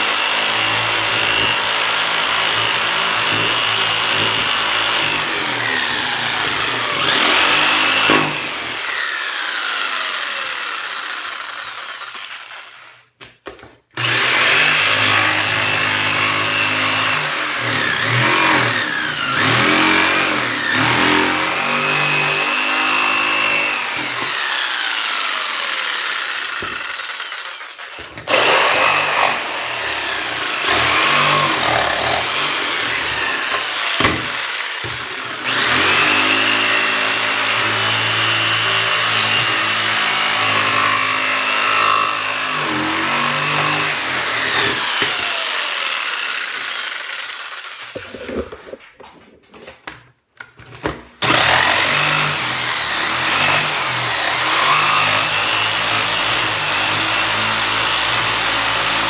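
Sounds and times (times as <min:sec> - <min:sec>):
jigsaw cutting plywood: 0:00.0 - 0:49.1, 0:50.6 - 0:59.0.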